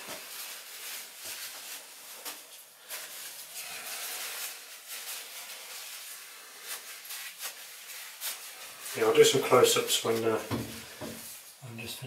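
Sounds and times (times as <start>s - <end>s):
paper towel rustling and crinkling: 0.0s - 12.0s.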